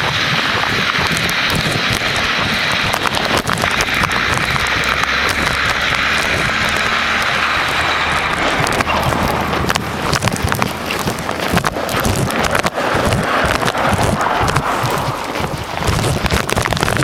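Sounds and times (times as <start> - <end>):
low steady hum: 0.0 - 17.0
motor vehicle running: 0.0 - 17.0.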